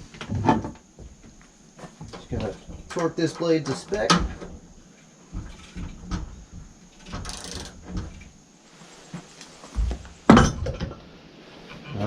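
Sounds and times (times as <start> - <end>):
metal knocks and clunks: 0.0 - 8.4, 9.8 - 11.0.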